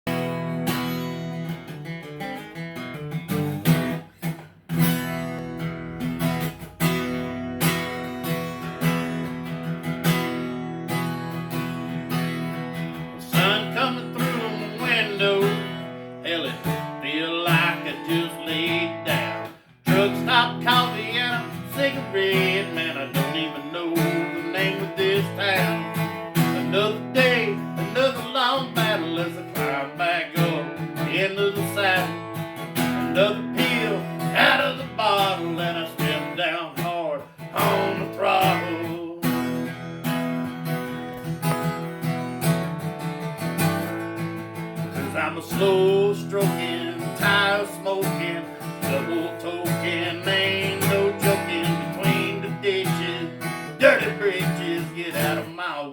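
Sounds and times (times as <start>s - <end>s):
acoustic guitar strumming: 0.0s - 55.9s.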